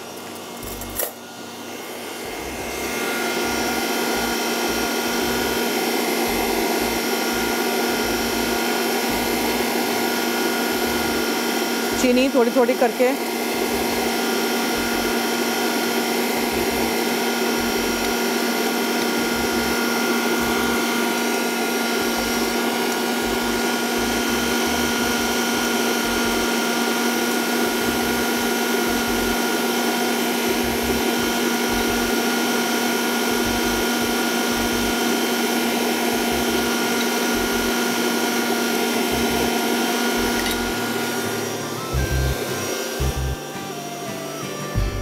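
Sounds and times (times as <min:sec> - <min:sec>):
electric mixer humming: 0:00.0 - 0:45.0.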